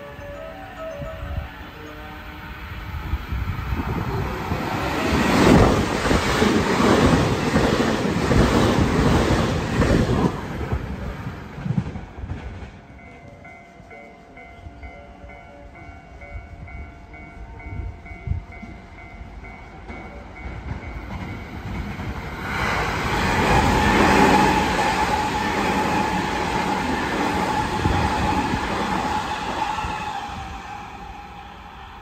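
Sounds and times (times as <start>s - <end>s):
electric train passing at speed: 0.0s - 32.0s.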